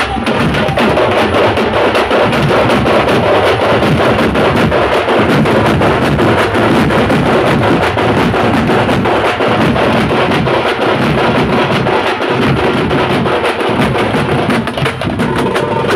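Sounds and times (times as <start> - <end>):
frame drums beaten with sticks: 0.0 - 15.9.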